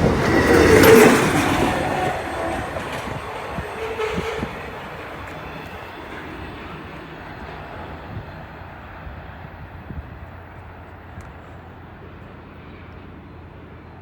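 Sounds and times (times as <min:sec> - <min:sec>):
train rolling past on rails: 0:00.0 - 0:14.0.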